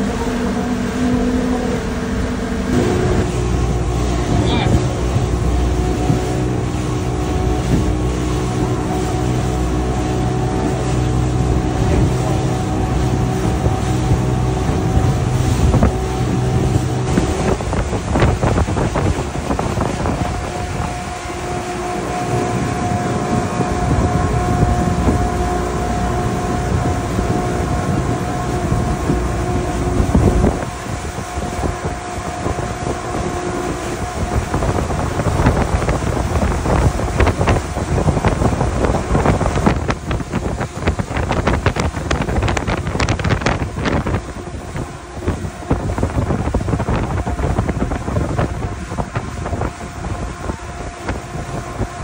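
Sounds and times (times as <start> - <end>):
outboard motors droning: 0.0 - 52.0
wind buffeting microphone: 0.0 - 52.0.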